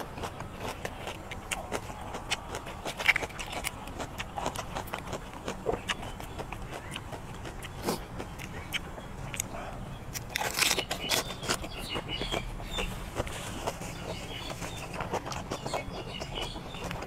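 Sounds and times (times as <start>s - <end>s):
loud bite: 0.0s - 17.0s
wet chewing: 0.0s - 17.0s.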